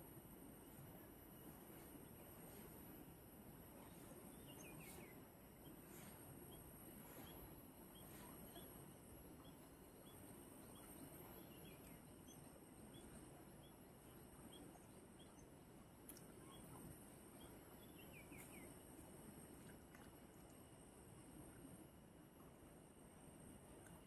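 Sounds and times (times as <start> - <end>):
low steady outdoor hush: 0.0 - 24.0.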